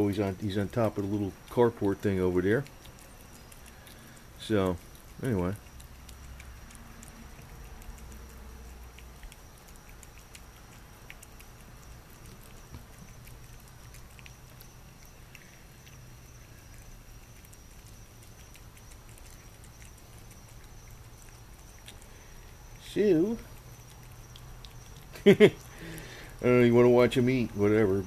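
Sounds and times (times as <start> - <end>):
cat eating wet food: 0.0 - 28.0.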